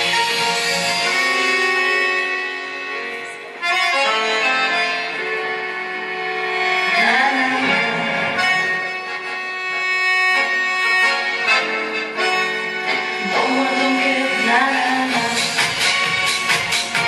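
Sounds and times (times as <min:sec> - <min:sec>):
tango music with accordion: 0:00.0 - 0:17.0.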